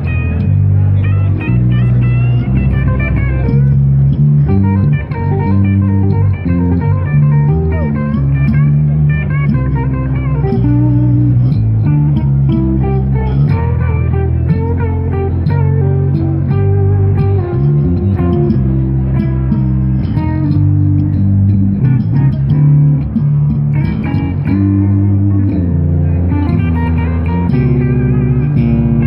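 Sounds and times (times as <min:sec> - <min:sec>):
electric bass: 0:00.0 - 0:29.0
electric guitar lead: 0:00.0 - 0:29.0.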